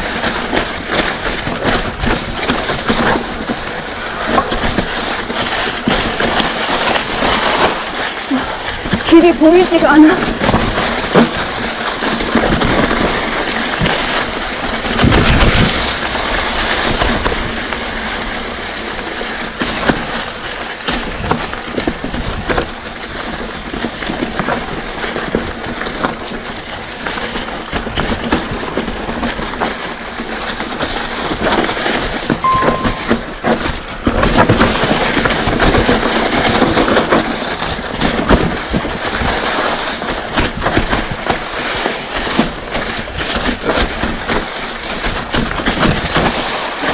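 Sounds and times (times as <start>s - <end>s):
bike tyres crunching over stones: 0.0s - 9.1s, 10.2s - 32.2s, 35.4s - 46.9s
bike rattling over bumps: 0.0s - 32.4s, 33.8s - 46.9s.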